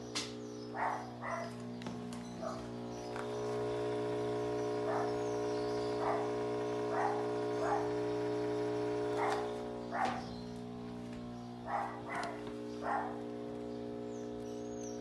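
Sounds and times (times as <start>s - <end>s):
drain pump humming: 0.0s - 15.0s.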